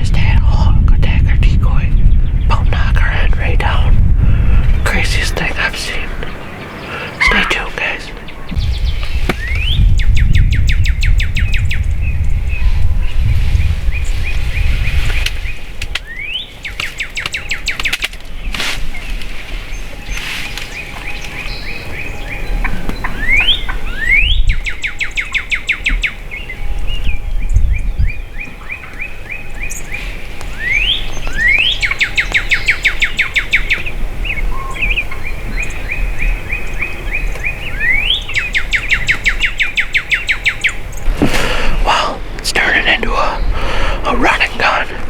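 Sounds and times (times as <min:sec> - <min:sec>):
songbird singing: 0:00.0 - 0:45.0.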